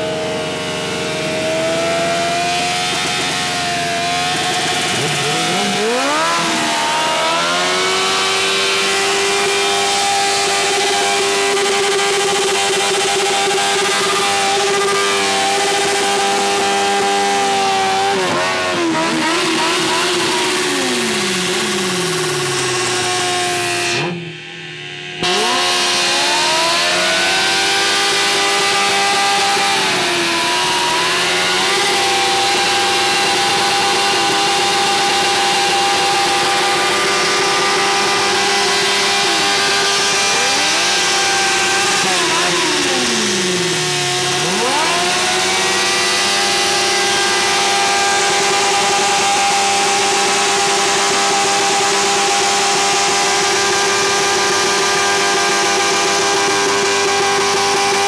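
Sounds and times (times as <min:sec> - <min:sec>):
motorcycle engine revving high: 0:00.0 - 0:58.0.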